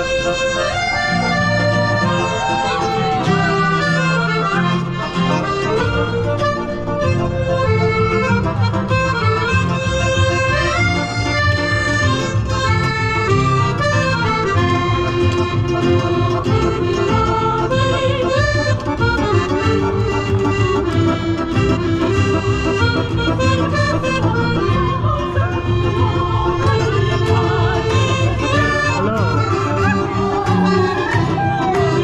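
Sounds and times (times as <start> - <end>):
fast melody line: 0.0 - 32.0.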